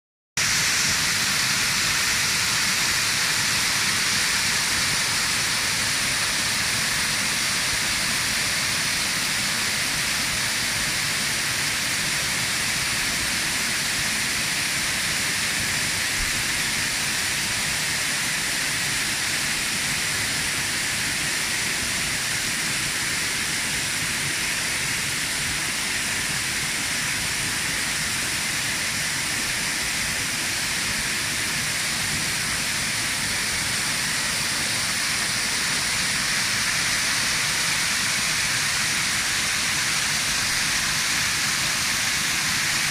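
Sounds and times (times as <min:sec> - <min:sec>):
waterfall splashing: 0:00.4 - 0:12.1, 0:13.5 - 0:42.9.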